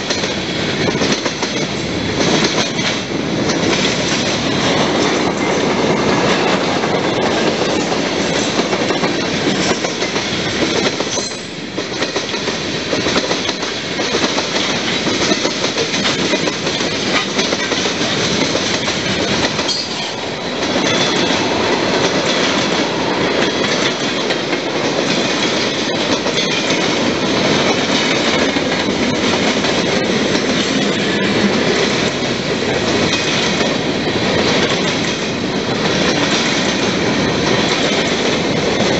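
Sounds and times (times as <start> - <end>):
train wheels rumbling on rails: 0.0 - 38.9
wheels clicking over rail joints: 0.0 - 38.9.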